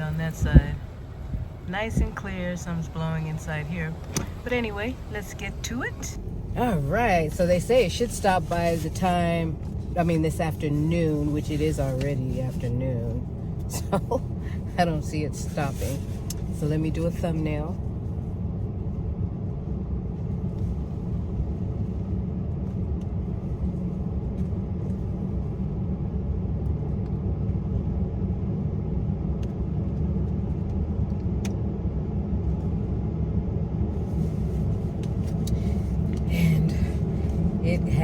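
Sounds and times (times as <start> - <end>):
car heater blowing: 0.0 - 38.0.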